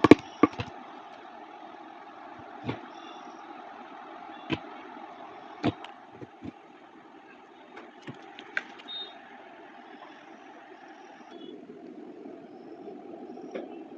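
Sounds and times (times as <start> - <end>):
steady background noise: 0.0 - 13.9.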